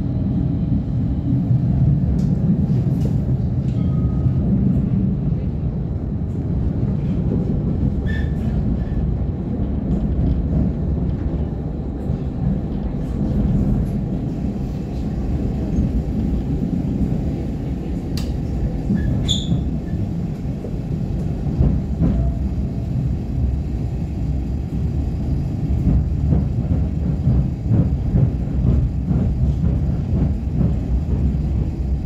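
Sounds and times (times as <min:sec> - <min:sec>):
tram wheels rumbling: 0:00.0 - 0:32.0.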